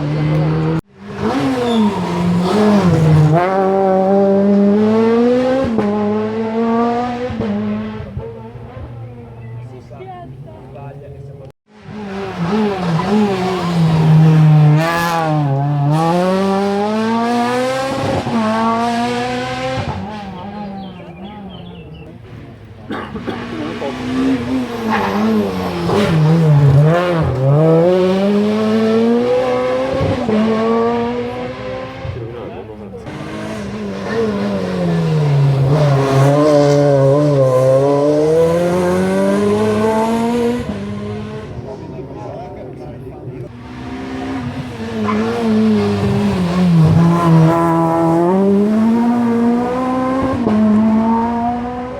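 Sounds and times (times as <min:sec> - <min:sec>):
rally car engine at high revs: 0:00.0 - 0:09.6, 0:11.4 - 0:51.9.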